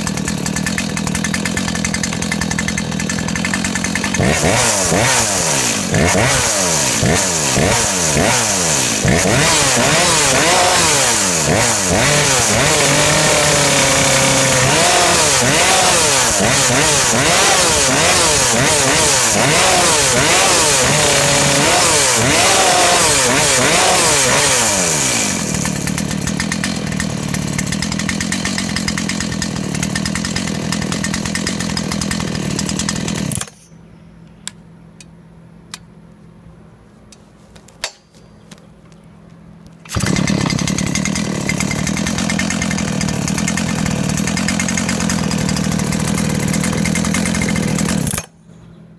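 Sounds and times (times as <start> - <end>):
chainsaw idling: 0.0 - 33.7, 39.9 - 48.4.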